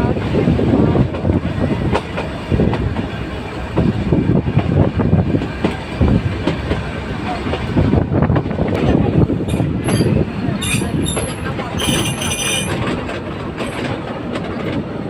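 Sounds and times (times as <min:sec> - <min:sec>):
train rumbling on track: 0:00.0 - 0:15.0
train wheel knocks and clatter: 0:00.2 - 0:15.0.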